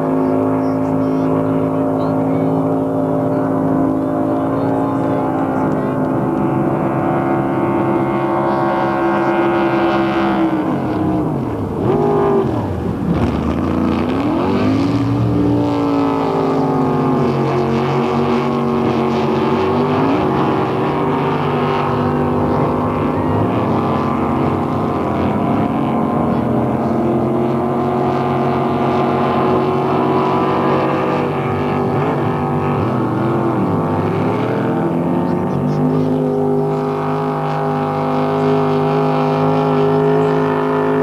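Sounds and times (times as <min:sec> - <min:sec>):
motorboat engines running: 0:00.0 - 0:41.0.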